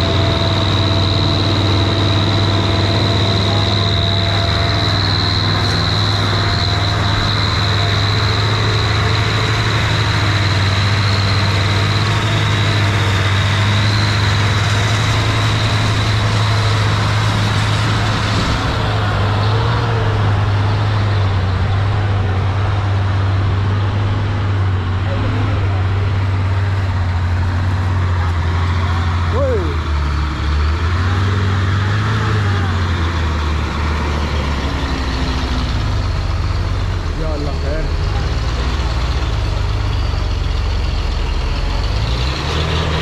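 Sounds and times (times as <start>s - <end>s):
diesel engines running under load: 0.0s - 43.0s.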